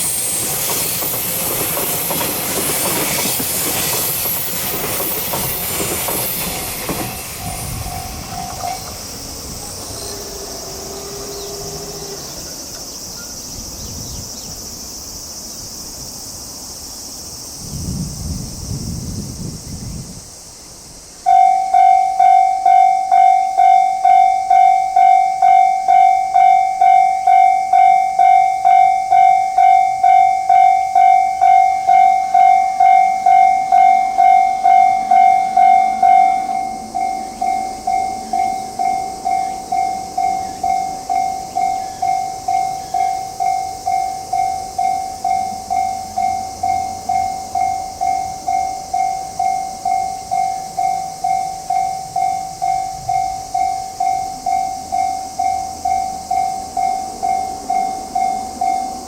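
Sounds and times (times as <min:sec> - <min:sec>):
level-crossing alarm bell clanging: 0:00.0 - 0:13.2, 0:21.2 - 0:59.0.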